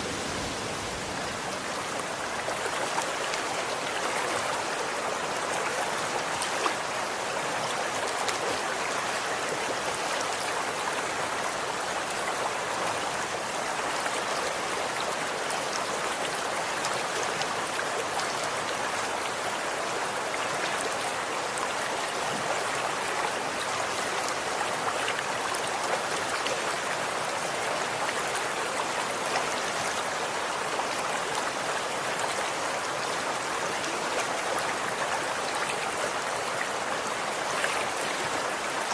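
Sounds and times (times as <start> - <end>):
stream of water flowing: 0.0 - 38.9.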